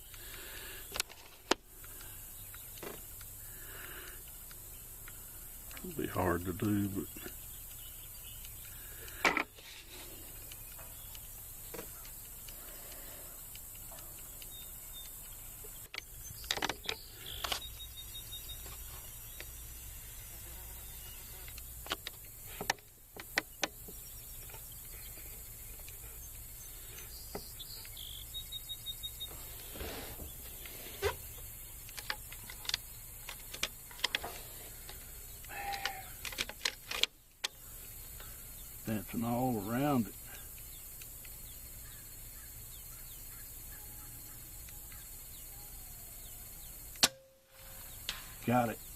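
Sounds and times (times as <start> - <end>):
high insect hiss: 0.0 - 48.9.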